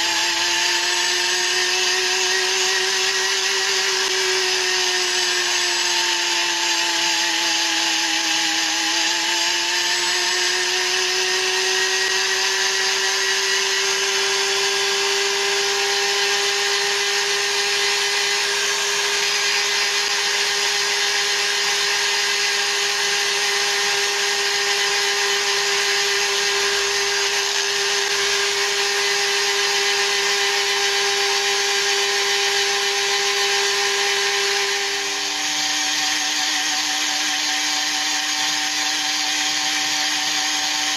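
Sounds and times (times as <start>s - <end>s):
rotary tool whining: 0.0s - 40.9s.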